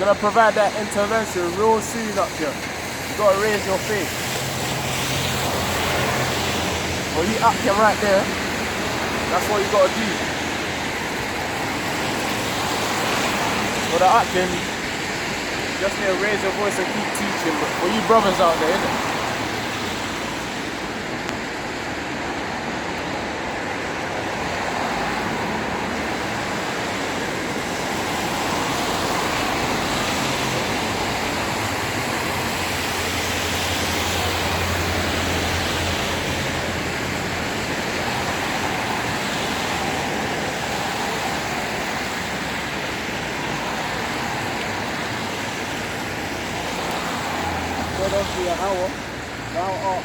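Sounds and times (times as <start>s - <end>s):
street traffic noise: 0.0s - 50.0s.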